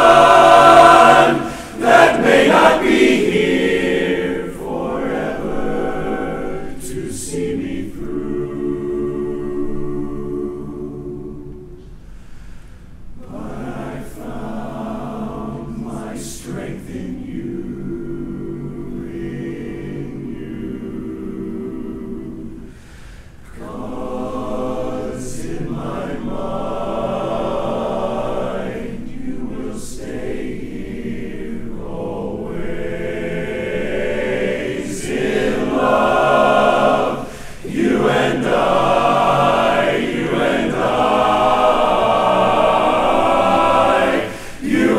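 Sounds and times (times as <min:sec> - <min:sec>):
men's chorus singing a cappella: 0:00.0 - 0:11.9, 0:13.2 - 0:44.9.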